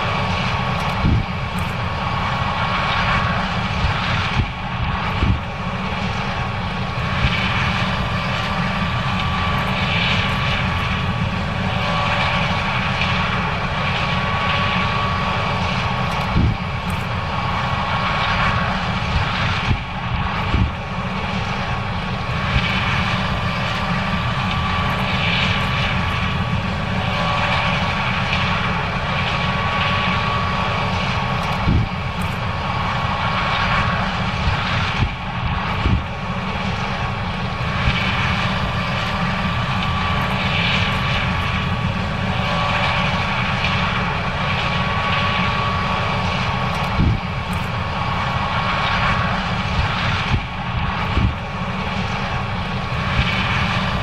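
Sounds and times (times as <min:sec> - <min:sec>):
combine harvester engine drone: 0:00.0 - 0:54.0
constant machine whine: 0:00.0 - 0:54.0.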